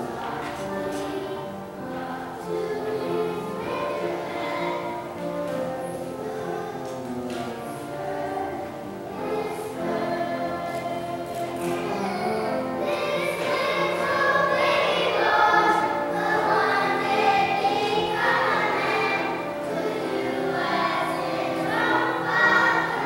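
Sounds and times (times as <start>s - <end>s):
children's choir singing: 0.0s - 23.0s.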